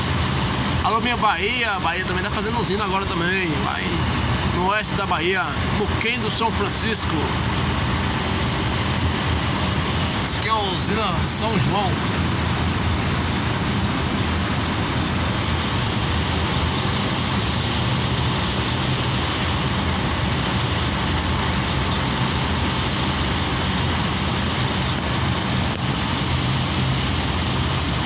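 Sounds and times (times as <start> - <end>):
broad rushing noise: 0.0 - 28.0
truck engine running: 0.0 - 28.0.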